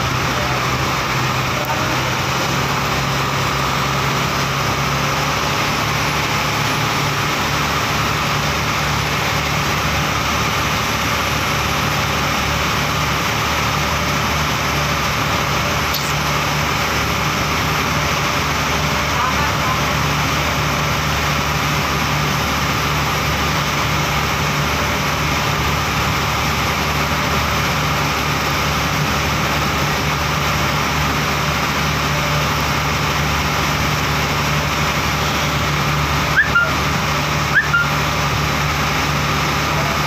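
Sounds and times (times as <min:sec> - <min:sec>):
boat engine running: 0:00.0 - 0:40.0.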